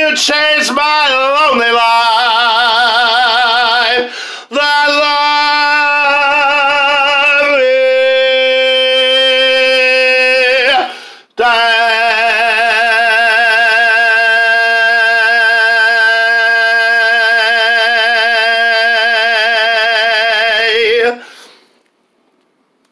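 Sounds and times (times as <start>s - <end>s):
man singing high note: 0.0s - 21.3s.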